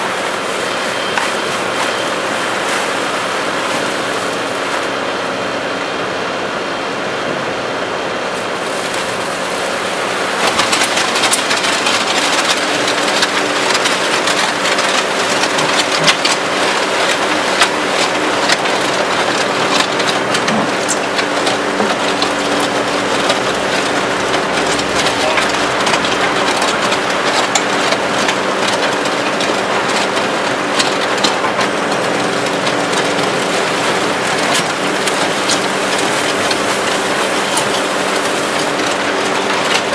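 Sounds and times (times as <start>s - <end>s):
clicks and rattles of churned mix: 0.0s - 5.4s, 8.4s - 39.9s
auger churning concrete mix: 0.0s - 39.9s
skid-steer loader engine running: 0.0s - 39.9s.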